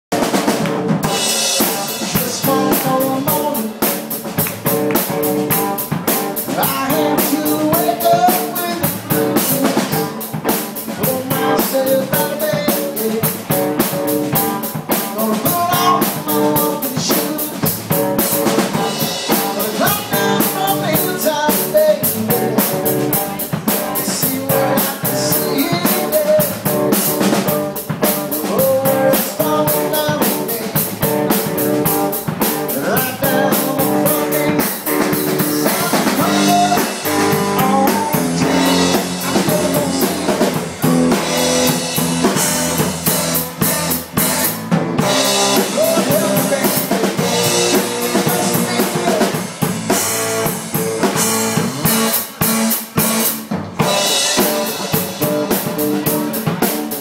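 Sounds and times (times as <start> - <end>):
drum kit beat: 0.1 - 57.0
electric guitar: 0.1 - 57.0
live rock band playing: 0.1 - 57.0.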